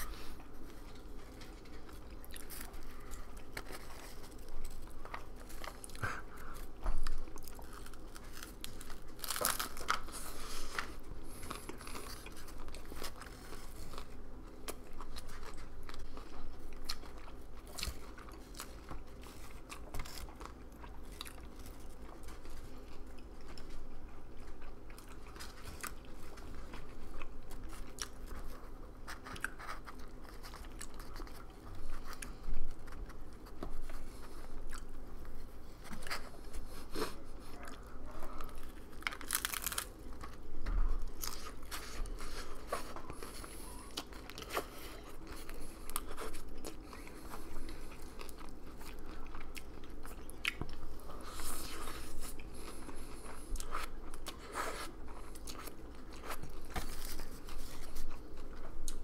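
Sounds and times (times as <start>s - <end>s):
crunching and chewing taco shell: 0.0s - 59.0s.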